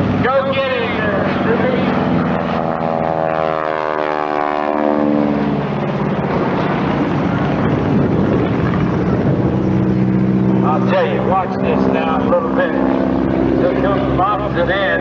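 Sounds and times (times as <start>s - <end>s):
propeller airplane flying past: 0.0s - 15.0s.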